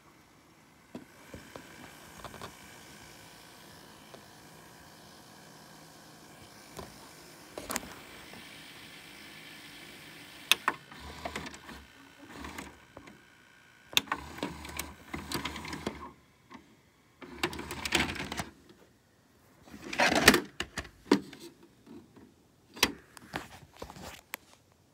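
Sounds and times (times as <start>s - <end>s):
vcr mechanism clicking and whirring: 0.0s - 18.8s, 19.8s - 23.3s.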